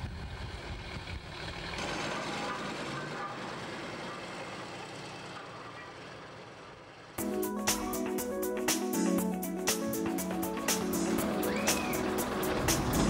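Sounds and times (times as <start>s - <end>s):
locomotive engine running: 0.0s - 13.0s.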